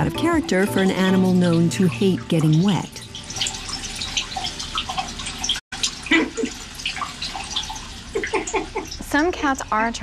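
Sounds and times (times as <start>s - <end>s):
tap water splashing into washbasin: 0.0s - 9.5s.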